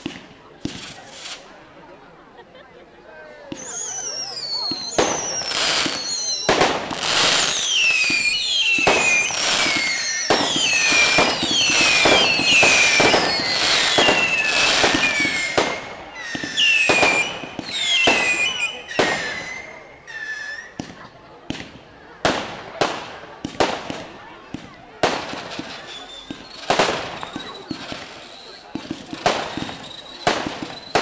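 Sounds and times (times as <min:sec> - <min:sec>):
fireworks whistling: 0:00.0 - 0:01.6, 0:03.5 - 0:21.0, 0:21.6 - 0:31.0
fireworks bangs and crackling: 0:00.0 - 0:02.2, 0:03.4 - 0:31.0.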